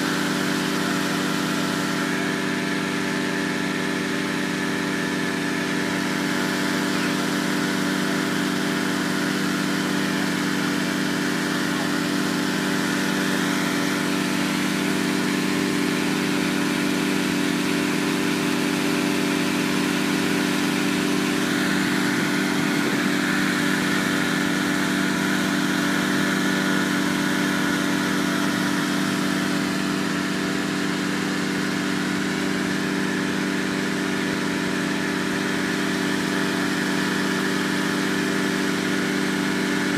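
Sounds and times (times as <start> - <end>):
engine-driven fan running: 0.0 - 39.9.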